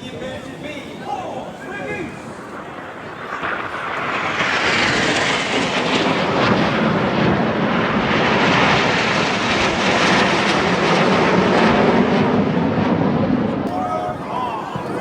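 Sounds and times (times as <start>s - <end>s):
jet aircraft flying past: 1.5s - 15.0s.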